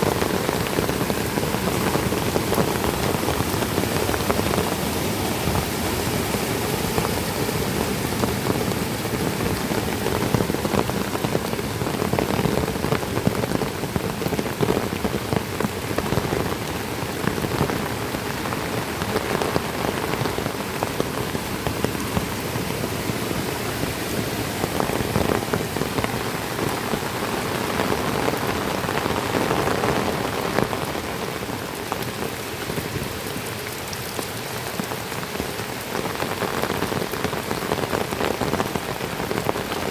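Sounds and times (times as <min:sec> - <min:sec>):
heavy rain falling: 0:00.0 - 0:39.9
raindrops ticking on surfaces: 0:00.0 - 0:39.9.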